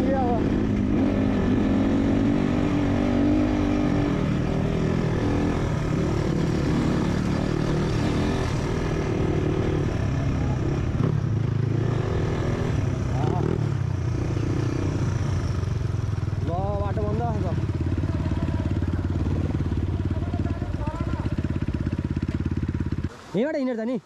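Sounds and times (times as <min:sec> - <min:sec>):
motorcycle engine revving: 0:00.0 - 0:23.1.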